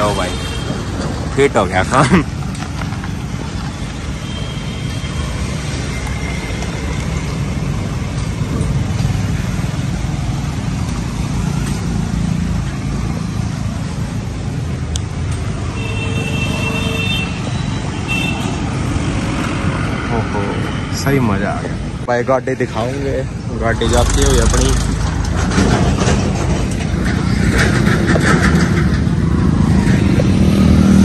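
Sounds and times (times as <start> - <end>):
roadside traffic noise: 0.0 - 31.0
vehicle engine and tyres rumbling: 0.0 - 31.0.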